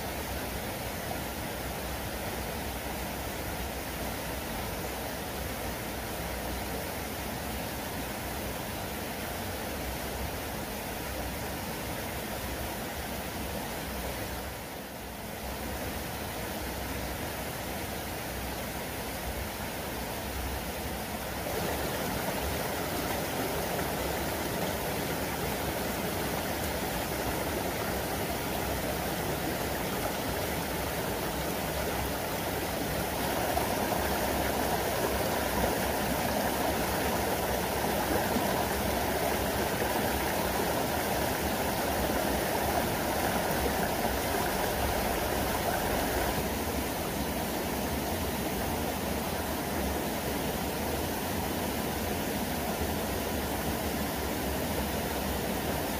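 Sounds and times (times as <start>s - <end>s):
river running over rocks: 0.0s - 55.9s.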